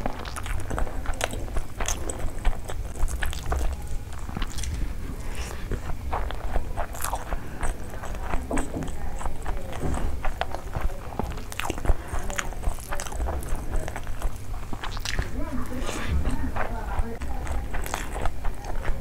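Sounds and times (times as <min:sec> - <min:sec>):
fingers squishing rice: 0:00.0 - 0:19.0
wet chewing smacks: 0:00.0 - 0:19.0.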